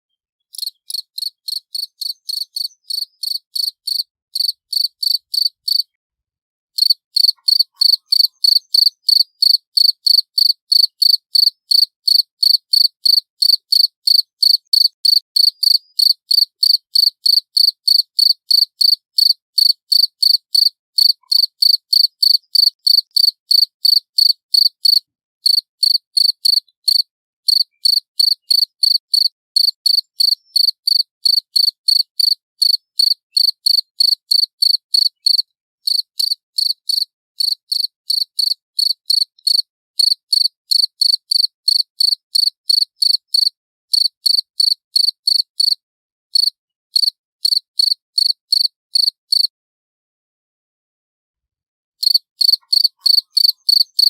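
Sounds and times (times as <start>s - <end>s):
cricket chirping: 0.5s - 5.8s, 6.8s - 45.8s, 46.4s - 49.5s, 52.0s - 54.0s.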